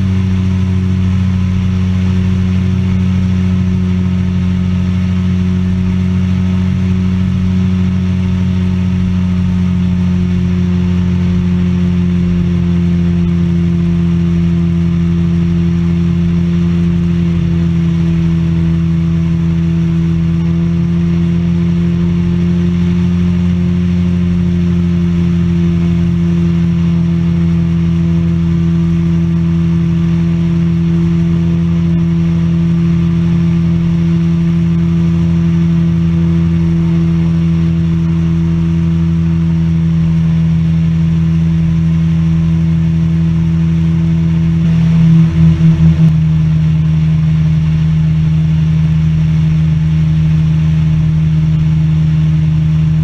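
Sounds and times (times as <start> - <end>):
microlight engine and propeller drone: 0.0 - 53.0.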